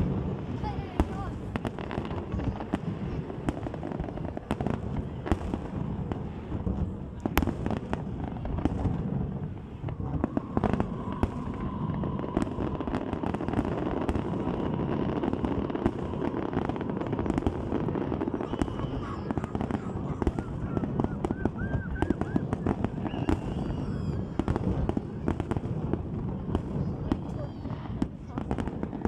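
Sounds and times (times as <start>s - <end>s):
fireworks bangs and pops: 0.0s - 29.0s.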